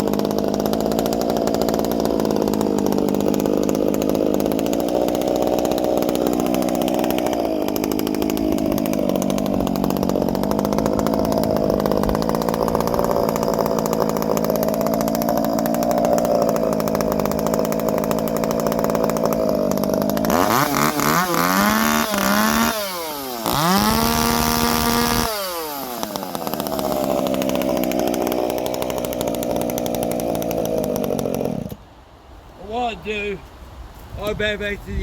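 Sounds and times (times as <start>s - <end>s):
two-stroke chainsaw revving: 0.0s - 31.8s.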